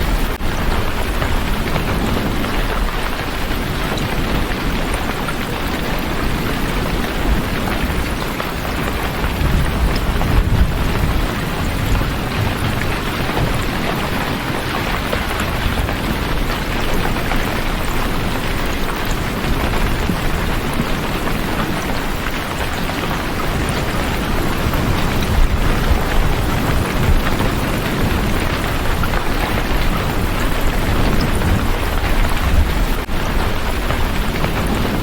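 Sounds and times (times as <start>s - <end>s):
heavy rain: 0.0s - 35.0s
low rumble of thunder: 0.0s - 35.0s.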